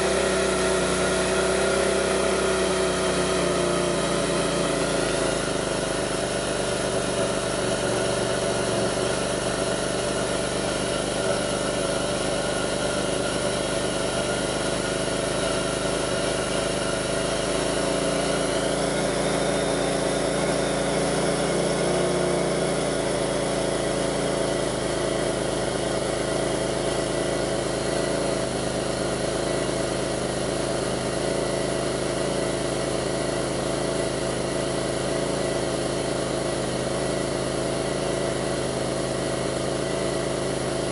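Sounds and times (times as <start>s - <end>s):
car engine idling roughly: 0.0s - 40.9s.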